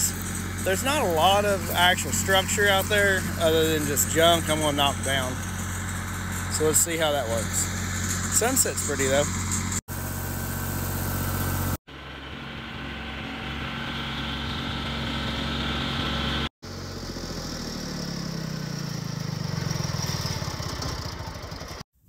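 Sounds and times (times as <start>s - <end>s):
tractor engine running: 0.0s - 21.8s.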